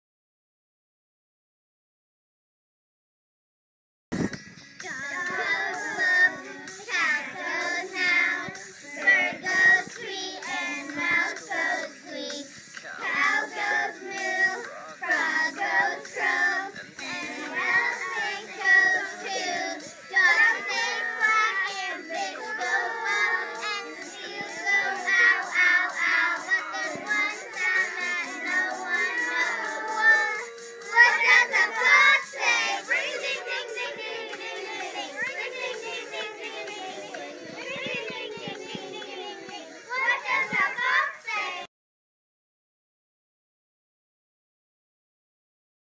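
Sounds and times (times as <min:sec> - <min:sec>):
music backing track: 0:04.1 - 0:41.6
children singing: 0:04.7 - 0:41.7.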